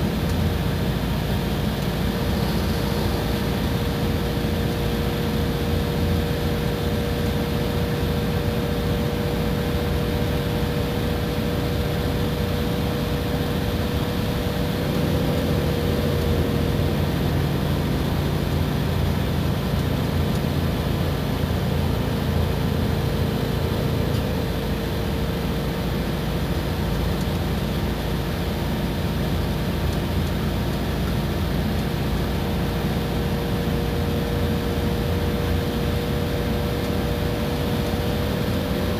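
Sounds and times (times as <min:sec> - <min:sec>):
bus diesel engine droning: 0:00.0 - 0:38.9
steady whine: 0:00.0 - 0:38.9.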